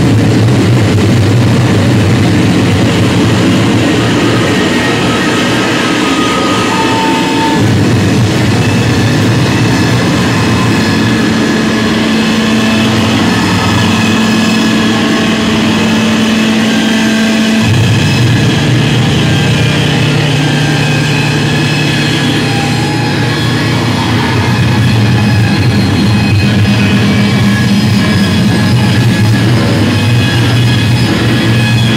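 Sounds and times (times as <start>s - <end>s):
distorted guitar drone: 0.0s - 31.9s.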